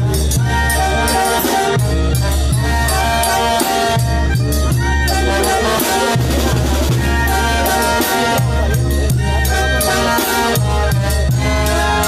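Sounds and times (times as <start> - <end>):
latin dance band music: 0.0 - 12.0.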